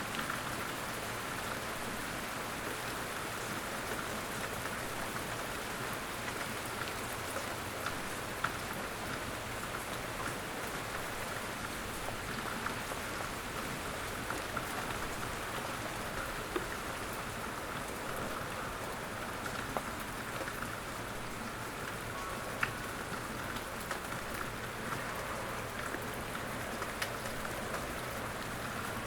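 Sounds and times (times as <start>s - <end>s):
raindrops ticking on surfaces: 0.0s - 29.0s.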